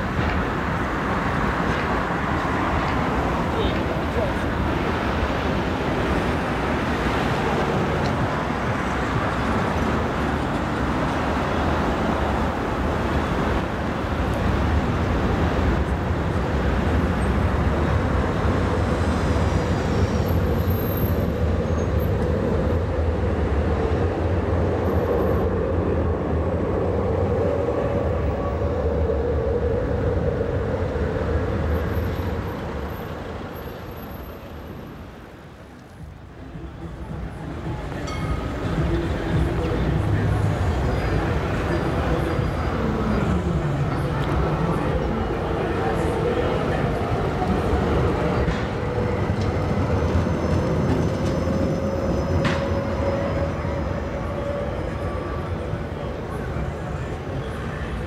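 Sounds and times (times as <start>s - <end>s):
street noise: 0.0s - 58.0s
tram rumbling on rails: 0.0s - 58.0s.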